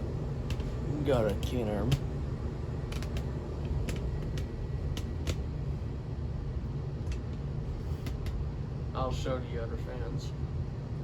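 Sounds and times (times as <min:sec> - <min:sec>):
ceiling fans humming: 0:00.0 - 0:11.0.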